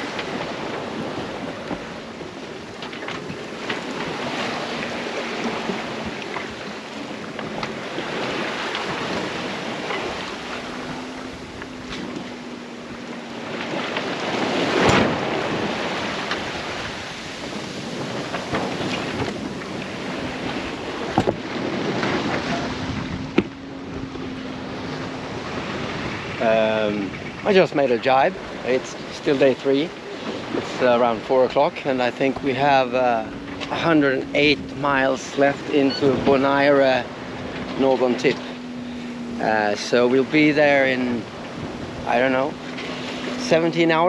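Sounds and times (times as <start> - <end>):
wind on microphone: 0.0 - 27.7, 30.0 - 43.4
water rushing along hull: 0.0 - 44.0
waves washing past: 0.0 - 44.0.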